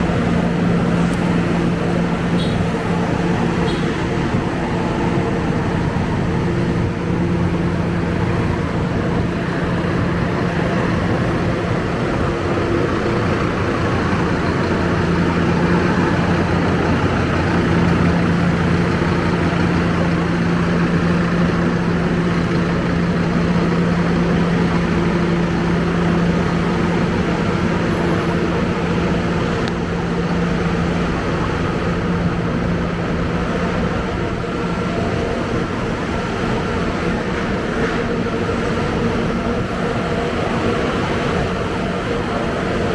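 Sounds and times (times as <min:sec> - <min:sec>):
bus diesel engine idling: 0:00.0 - 0:42.9.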